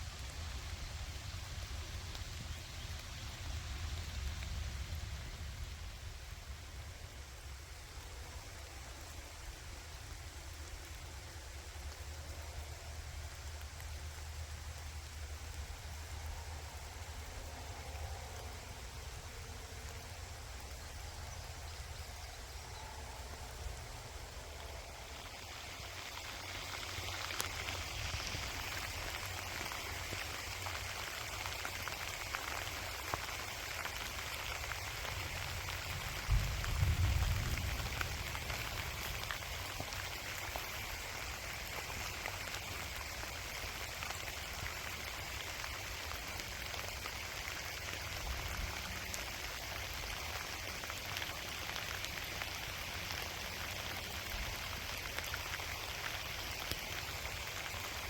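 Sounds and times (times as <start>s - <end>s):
gentle rain patter: 0.0s - 58.0s.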